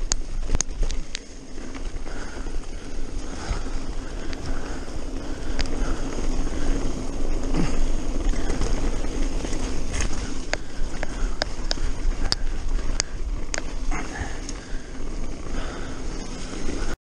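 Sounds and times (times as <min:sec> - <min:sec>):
bike clicks and rattles: 0:00.0 - 0:17.0
wind and tyres rumbling on gravel: 0:00.0 - 0:17.0.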